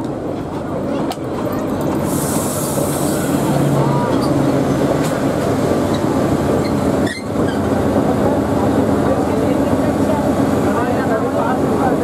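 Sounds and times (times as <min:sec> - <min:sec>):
diesel locomotive engine: 0:00.0 - 0:12.0
train coaches rumbling on track: 0:00.0 - 0:12.0.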